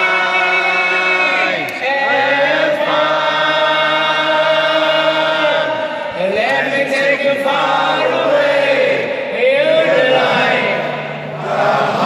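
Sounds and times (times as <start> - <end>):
crowd singing long notes: 0.0 - 12.0.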